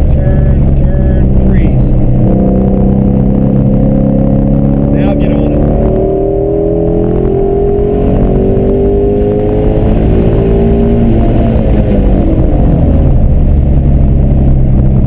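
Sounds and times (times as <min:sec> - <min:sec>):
car engine revving from cabin: 0:00.0 - 0:15.0.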